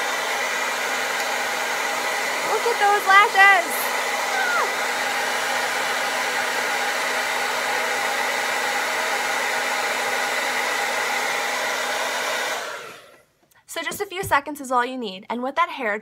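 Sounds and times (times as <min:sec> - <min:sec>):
hair dryer running: 0:00.0 - 0:13.3.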